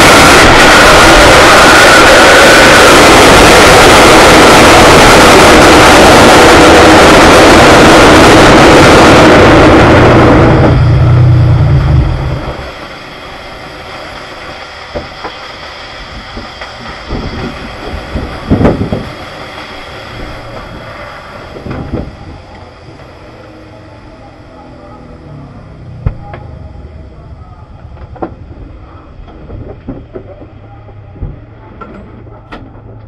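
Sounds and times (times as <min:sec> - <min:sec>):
race car engine roaring: 0:00.0 - 0:15.4, 0:16.0 - 0:33.0
deep engine rumble: 0:00.0 - 0:33.0.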